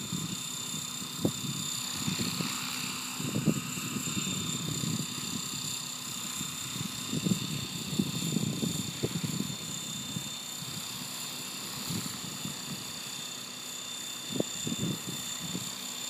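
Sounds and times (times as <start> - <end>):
wind buffeting microphone: 0.0 - 13.1, 14.3 - 15.8
drone whine: 0.0 - 16.0.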